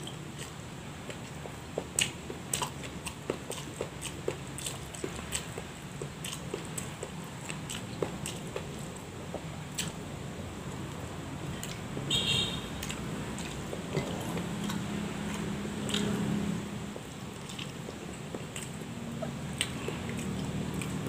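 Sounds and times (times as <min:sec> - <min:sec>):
man chewing and lip smacking: 0:00.0 - 0:10.0, 0:10.6 - 0:11.9, 0:12.8 - 0:16.3, 0:16.9 - 0:21.0.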